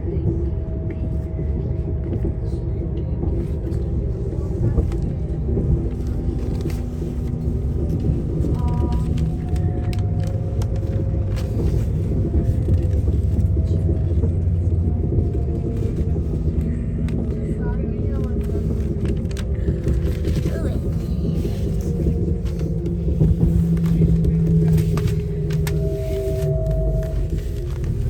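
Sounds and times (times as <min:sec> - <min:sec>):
faint whine: 0:00.0 - 0:28.0
train rumble inside carriage: 0:00.0 - 0:28.0.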